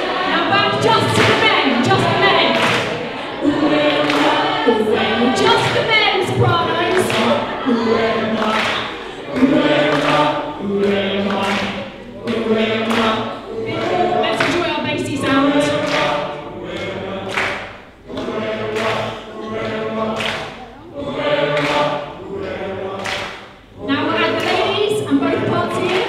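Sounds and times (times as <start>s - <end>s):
choir singing unaccompanied: 0.0s - 26.0s.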